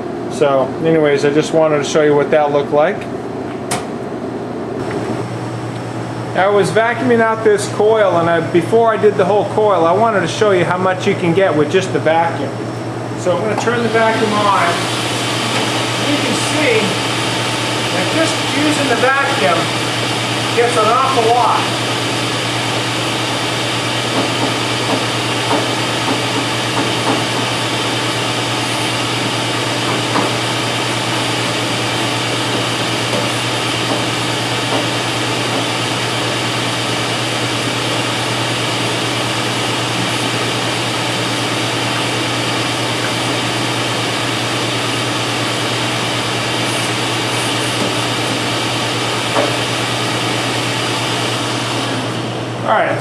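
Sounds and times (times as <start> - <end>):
shop vac running: 0.0 - 53.0.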